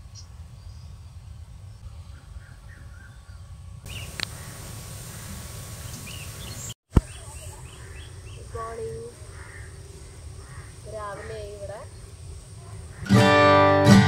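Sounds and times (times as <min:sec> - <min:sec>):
birds calling: 0:01.8 - 0:13.9.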